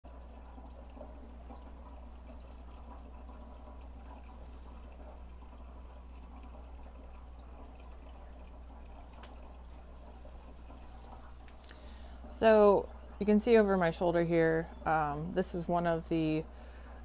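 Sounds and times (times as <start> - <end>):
steady low hum: 0.0 - 17.0
water trickling and dripping: 0.0 - 17.0.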